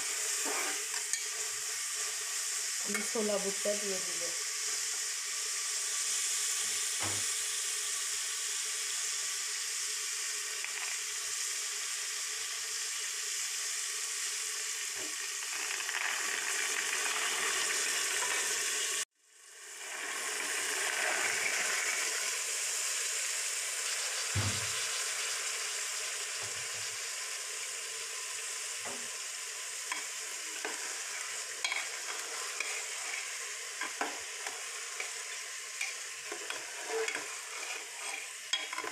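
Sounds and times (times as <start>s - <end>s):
food sizzling in oil in a pan: 0.0s - 38.9s.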